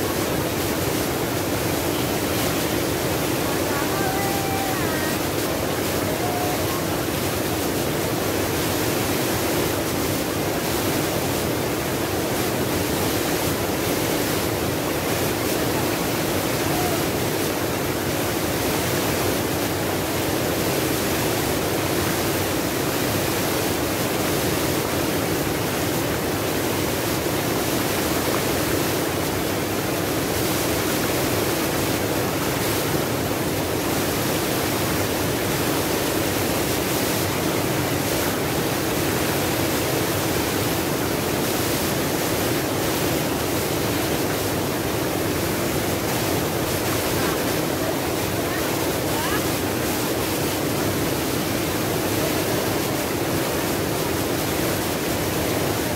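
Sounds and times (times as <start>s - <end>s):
waterfall pouring over boulders: 0.0s - 55.9s.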